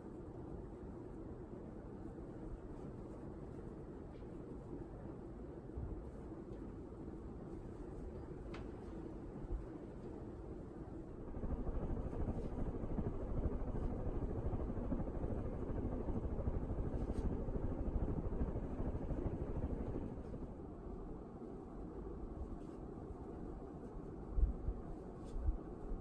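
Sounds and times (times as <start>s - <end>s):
ceiling fan whoosh: 0.0s - 26.0s.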